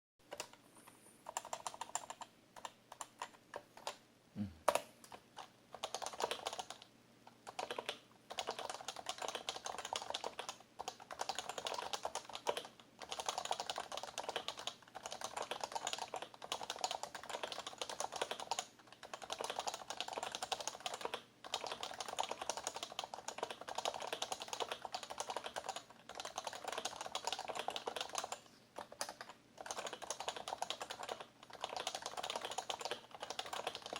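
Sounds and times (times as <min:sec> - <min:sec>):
keyboard typing: 0:00.2 - 0:04.0, 0:04.7 - 0:33.9.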